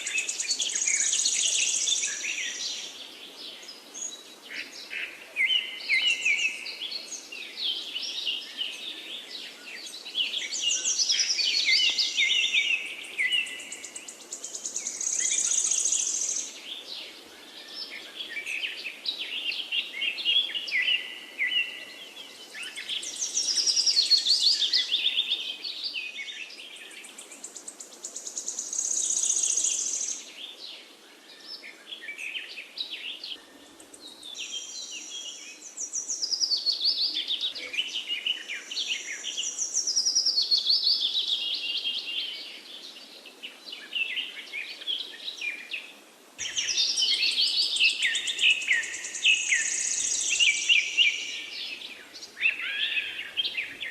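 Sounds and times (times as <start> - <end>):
birds singing: 0.0 - 53.9.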